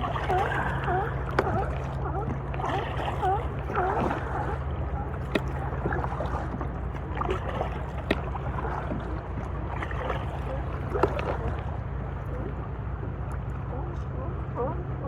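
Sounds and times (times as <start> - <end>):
water lapping at hull: 0.0 - 15.0.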